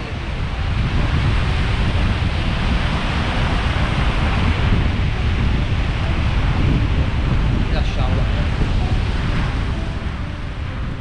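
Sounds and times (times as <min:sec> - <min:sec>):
surf washing on shore: 0:00.0 - 0:11.0
wind buffeting microphone: 0:00.0 - 0:11.0.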